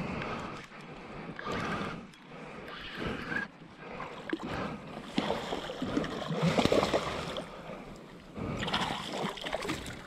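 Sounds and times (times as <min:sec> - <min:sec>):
water splashing against a kayak hull: 0:00.2 - 0:10.0.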